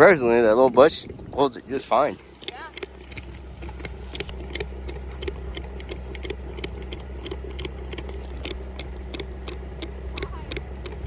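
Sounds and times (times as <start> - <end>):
motorcycle engine running: 0.0 - 11.0
clicking and rattling: 0.6 - 11.0.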